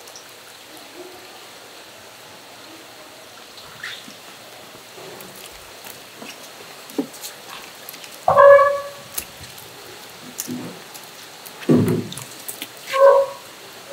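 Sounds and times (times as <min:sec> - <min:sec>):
running water hissing: 0:00.0 - 0:13.9.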